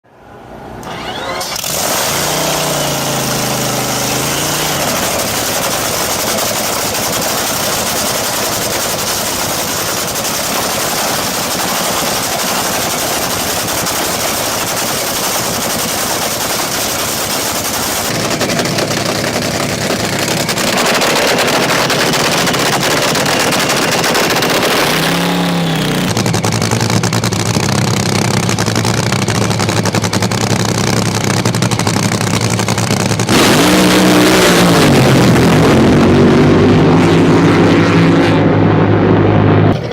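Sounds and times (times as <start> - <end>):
powerboat engine running: 0.8 - 39.9.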